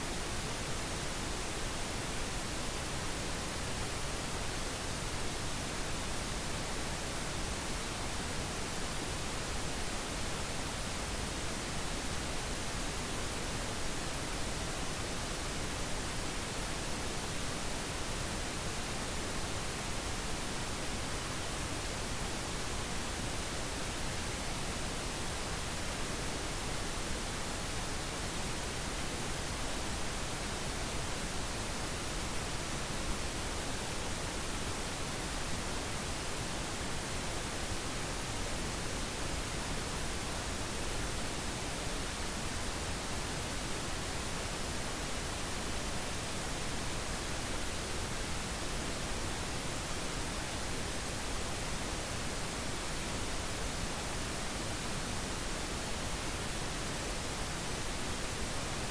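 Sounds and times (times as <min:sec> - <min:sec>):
steady pink noise: 0:00.0 - 0:58.9.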